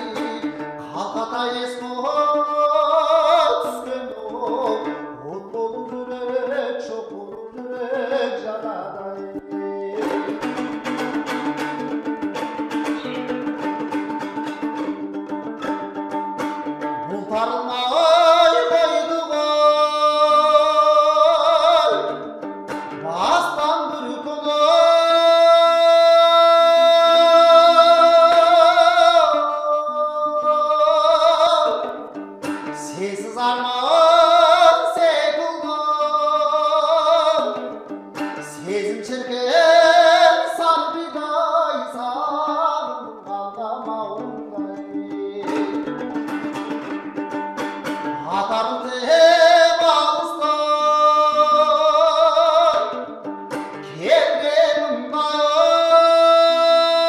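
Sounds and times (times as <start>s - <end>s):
lute strumming: 0.0s - 57.0s
man singing: 0.0s - 57.0s.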